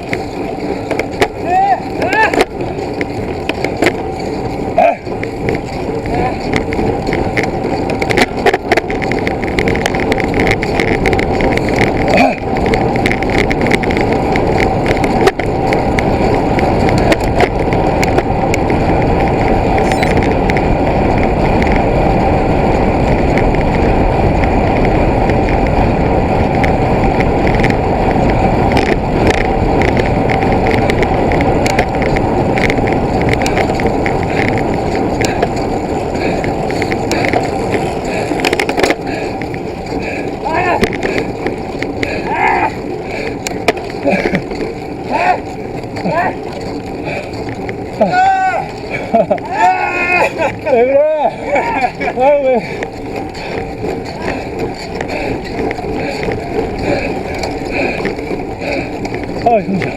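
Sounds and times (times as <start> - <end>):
rolling over rough trail: 0.0 - 59.9.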